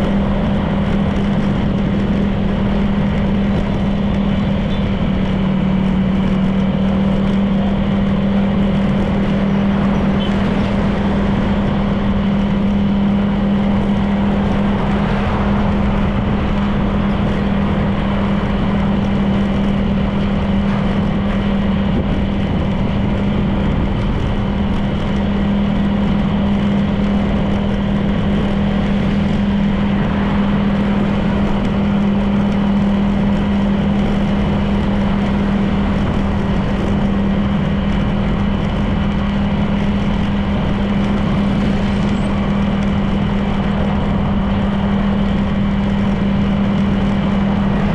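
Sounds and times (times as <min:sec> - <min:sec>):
scooter engine running: 0:00.0 - 0:47.9
wind and road noise: 0:00.0 - 0:47.9.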